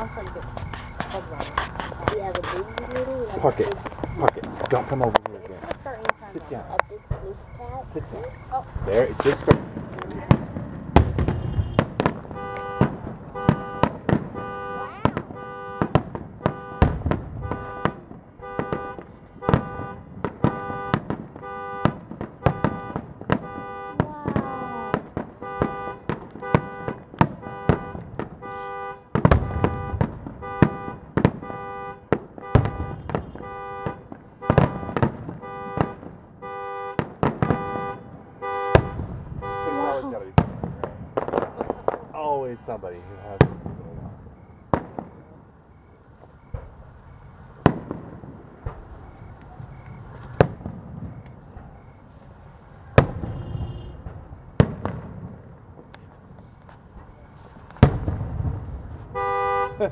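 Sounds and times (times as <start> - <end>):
car alarm beeping: 0.0 - 9.5, 11.1 - 40.2, 44.1 - 54.2, 56.4 - 57.8, 59.0 - 59.9
fireworks bangs and crackles: 0.0 - 59.9.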